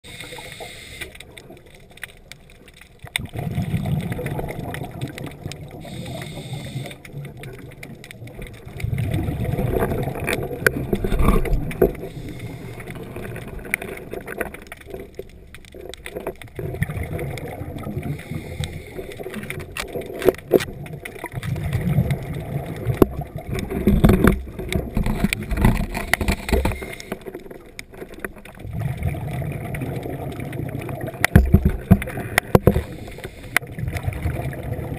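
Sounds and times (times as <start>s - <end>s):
underwater bubbles gurgling: 0.0s - 34.9s.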